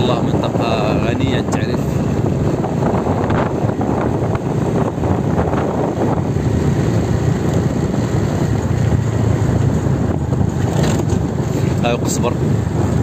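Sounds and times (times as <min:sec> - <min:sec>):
vehicle driving on road: 0:00.0 - 0:13.0.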